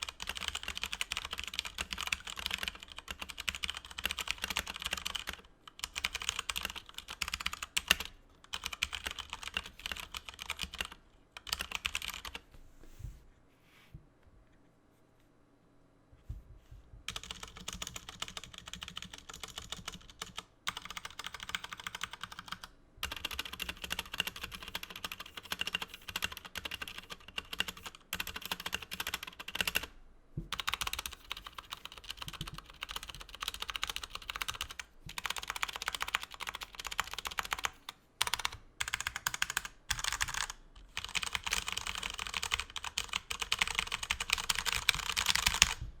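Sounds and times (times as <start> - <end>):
mechanical keyboard typing: 0.0 - 12.4, 17.1 - 29.9, 30.5 - 45.8.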